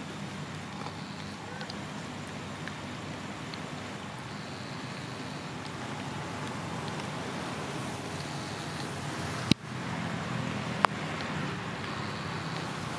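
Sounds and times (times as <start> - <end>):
outdoor background rumble and hiss: 0.0 - 12.9.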